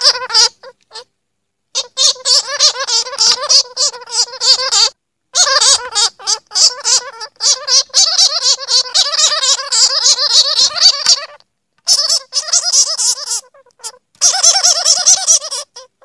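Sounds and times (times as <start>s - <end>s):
bats chattering: 1.8s - 15.9s.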